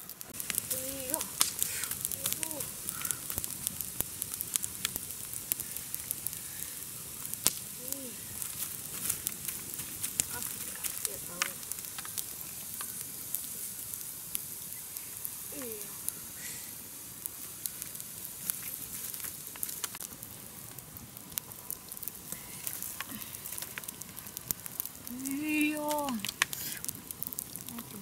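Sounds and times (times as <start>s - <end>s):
meat sizzling over fire: 0.0s - 28.0s
wood fire crackling and popping: 0.0s - 28.0s.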